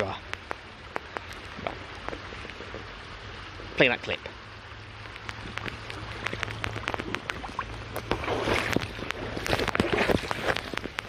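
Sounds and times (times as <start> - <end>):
brook water running: 0.0 - 11.0
small sharp drips and splashes: 0.0 - 11.0.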